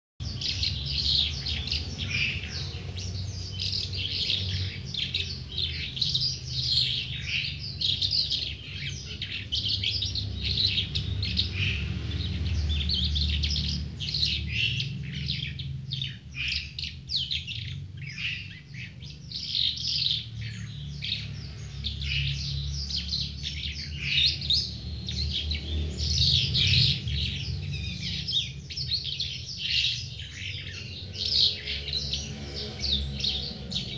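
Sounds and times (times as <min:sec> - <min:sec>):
lark singing chirps and trills: 0:00.2 - 0:33.9.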